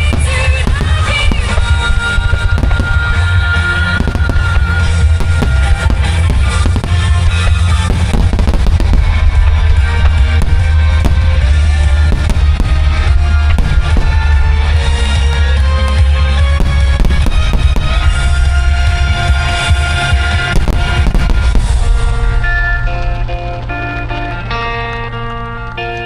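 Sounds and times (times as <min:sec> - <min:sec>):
loud music with heavy bass: 0:00.0 - 0:23.3
fireworks bursting: 0:00.0 - 0:26.0.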